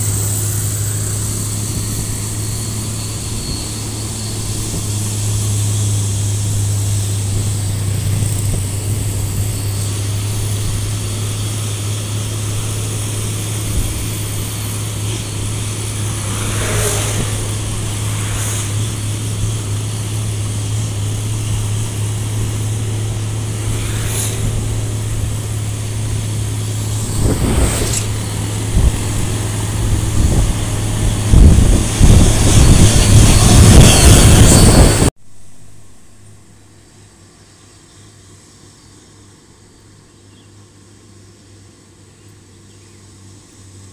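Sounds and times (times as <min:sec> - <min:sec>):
wind and road rush: 0:00.0 - 0:36.6
truck diesel engine roaring: 0:00.0 - 0:36.8.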